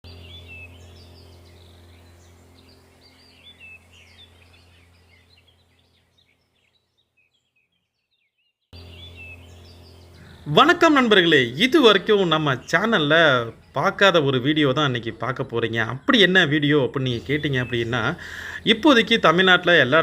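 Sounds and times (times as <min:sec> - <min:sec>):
steady low hum: 0:00.0 - 0:07.2, 0:08.7 - 0:20.0
small birds chirping: 0:00.0 - 0:20.0.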